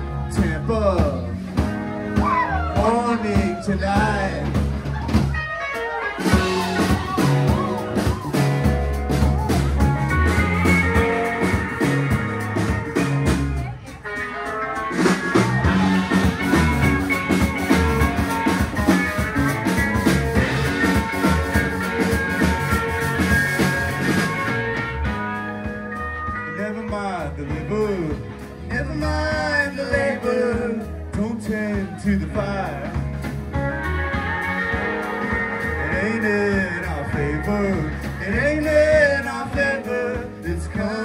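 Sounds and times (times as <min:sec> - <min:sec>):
rock band playing: 0:00.0 - 0:41.0.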